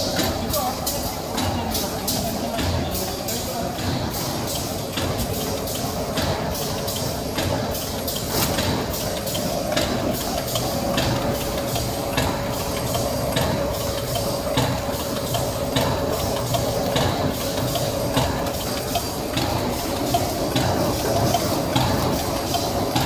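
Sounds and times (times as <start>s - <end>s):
packing machine humming: 0.0s - 23.0s
sharp mechanical clacks: 0.0s - 23.0s.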